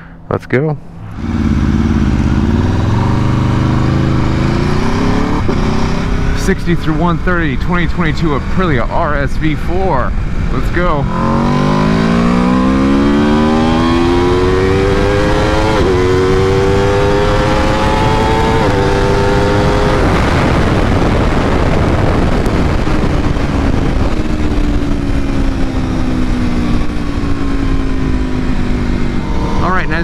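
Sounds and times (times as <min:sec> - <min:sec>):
loud wind rush: 0:00.8 - 0:30.0
motorcycle engine revving: 0:00.9 - 0:30.0.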